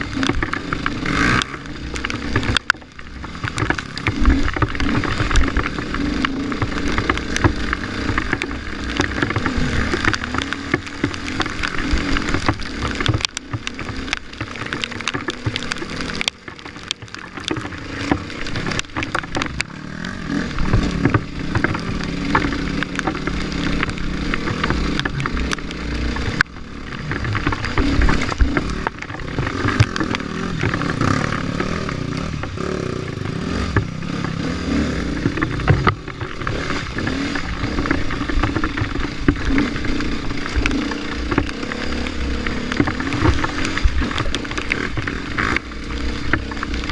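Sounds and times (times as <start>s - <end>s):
off-road motorcycle engine revving: 0.0s - 46.9s.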